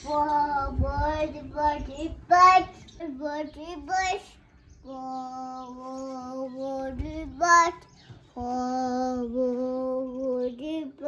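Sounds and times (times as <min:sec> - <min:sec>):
toddler singing held notes: 0:00.0 - 0:11.0.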